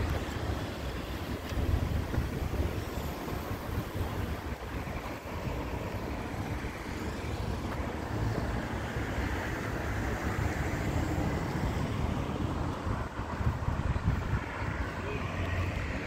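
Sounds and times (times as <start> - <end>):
cars passing: 0.0 - 16.0
wind gusting on microphone: 0.0 - 16.0.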